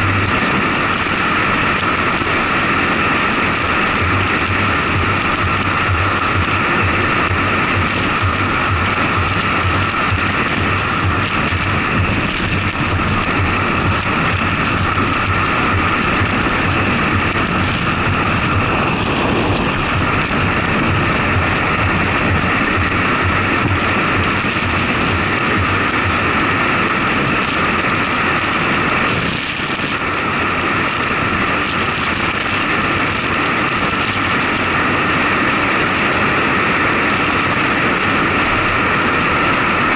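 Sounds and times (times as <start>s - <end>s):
low hum: 0.0s - 39.9s
truck road noise: 0.0s - 39.9s
wind rushing: 0.0s - 39.9s.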